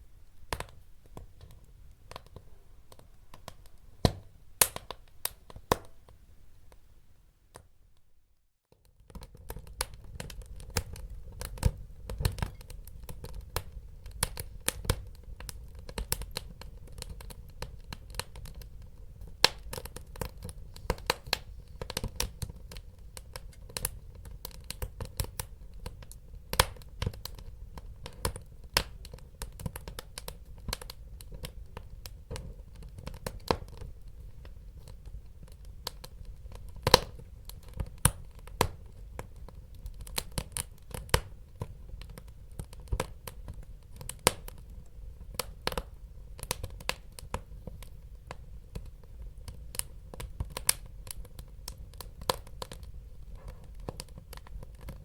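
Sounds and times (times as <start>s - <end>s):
wood fire crackling and popping: 0.3s - 6.2s, 8.7s - 55.0s.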